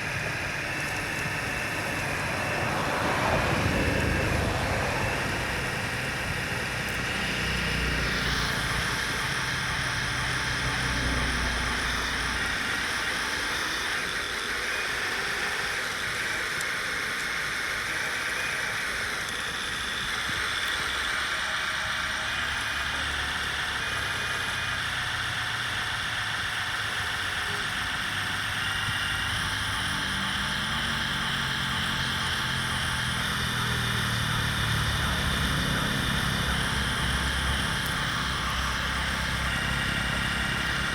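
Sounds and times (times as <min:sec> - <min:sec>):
electric motors whirring: 0:00.0 - 0:40.9.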